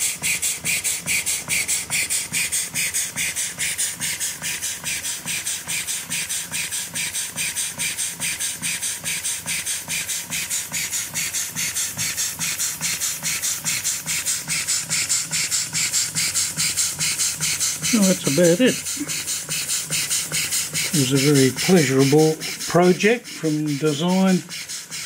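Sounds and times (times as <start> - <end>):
steam engine hissing puffs: 0.0 - 25.0.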